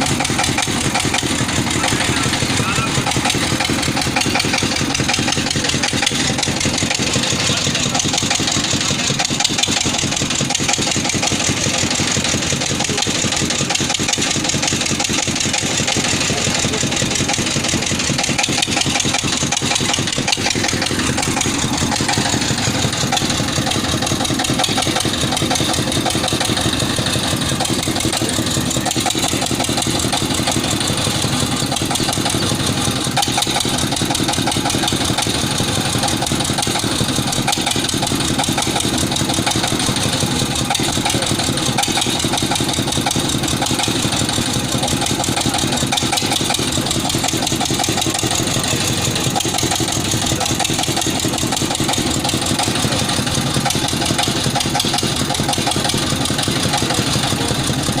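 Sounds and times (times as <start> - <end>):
boring rig engine running: 0.0 - 58.0.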